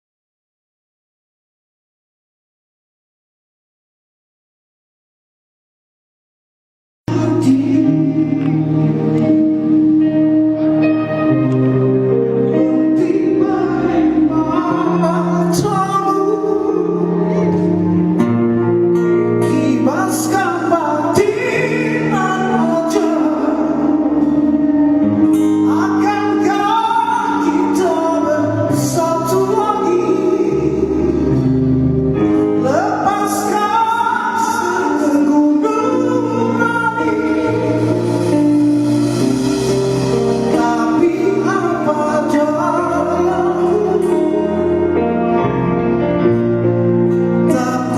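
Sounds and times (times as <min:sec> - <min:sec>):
person singing lead vocal: 0:07.1 - 0:47.9
rock band playing live: 0:07.1 - 0:47.9.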